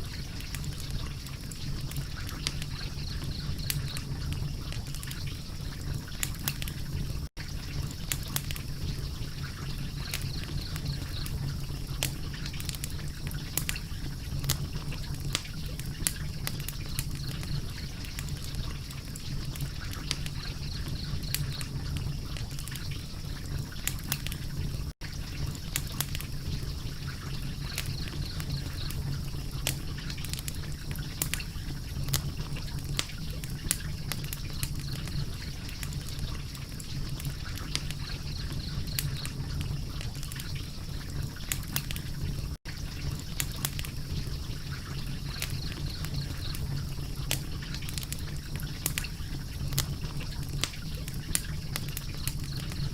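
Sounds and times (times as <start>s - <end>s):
low rumble of burning: 0.0s - 52.9s
wood fire crackling and popping: 0.0s - 52.9s.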